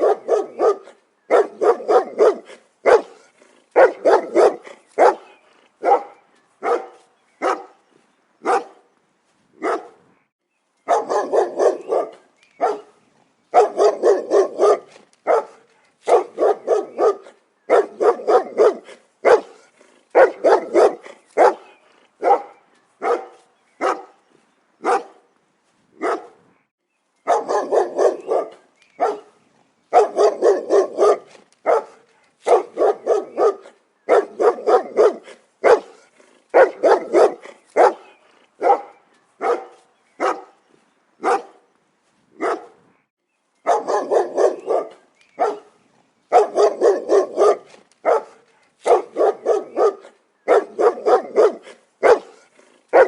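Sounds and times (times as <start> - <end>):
dog barking: 0.0 - 7.8, 8.4 - 8.8, 9.6 - 10.0, 10.9 - 12.9, 13.5 - 24.2, 24.8 - 25.2, 26.0 - 26.4, 27.3 - 40.6, 41.2 - 41.6, 42.4 - 42.8, 43.7 - 53.0.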